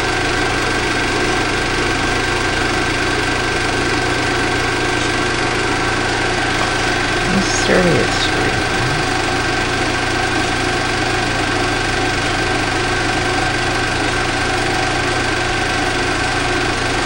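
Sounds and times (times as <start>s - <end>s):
film projector mechanical hum: 0.0s - 17.0s.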